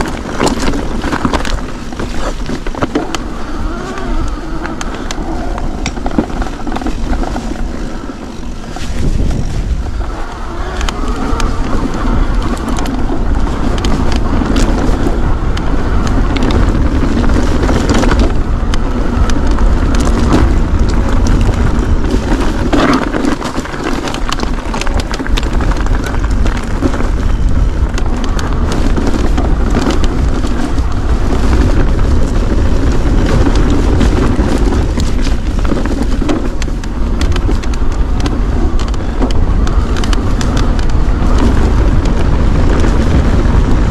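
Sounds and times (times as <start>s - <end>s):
bike rattling: 0.0s - 43.9s
tyres rolling over gravel: 0.0s - 43.9s
wind rumble on microphone: 0.0s - 43.9s.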